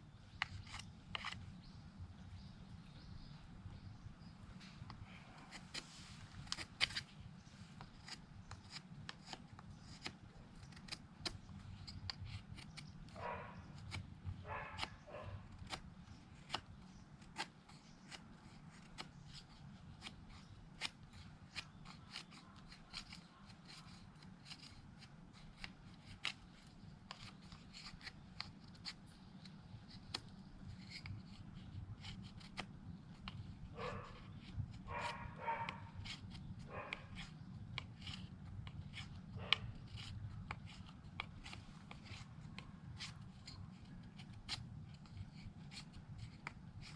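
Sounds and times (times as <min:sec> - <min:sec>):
knife scraping wooden stick: 0:00.3 - 0:01.8, 0:04.6 - 0:46.9.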